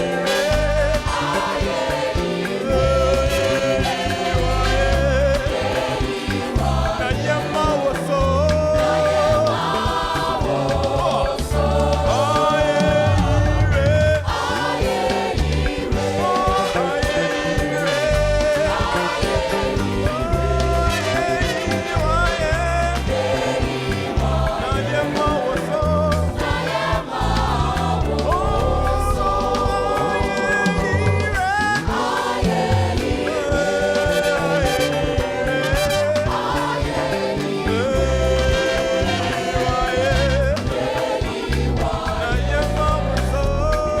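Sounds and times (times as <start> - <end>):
band accompaniment: 0.0 - 44.0
choir singing gospel: 0.0 - 44.0
steady bass line: 0.0 - 44.0.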